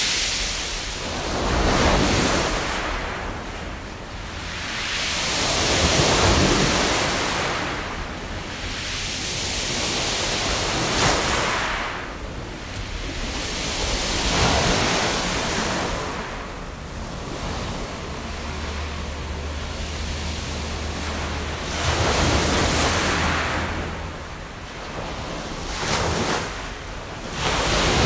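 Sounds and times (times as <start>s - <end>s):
waves breaking on pebbles: 0.0s - 28.0s.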